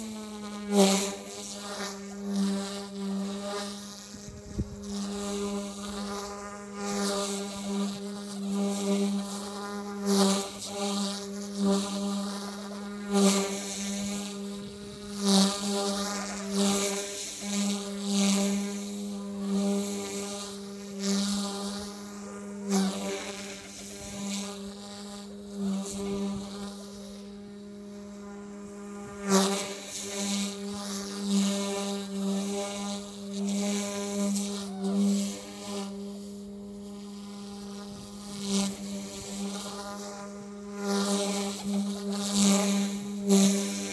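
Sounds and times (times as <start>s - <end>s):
rc helicopter motor whine: 0.0s - 43.9s.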